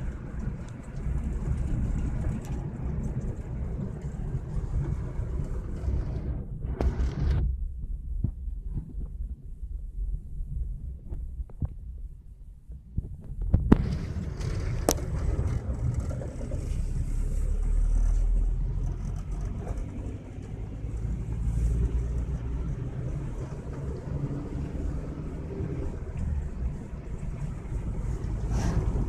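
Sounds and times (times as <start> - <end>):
car engine and road rumble: 0.0 - 29.0
rushing road and wind noise: 0.0 - 29.0.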